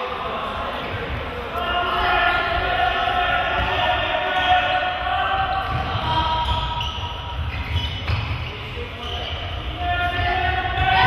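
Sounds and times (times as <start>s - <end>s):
sneakers squeaking: 0.8s - 11.0s.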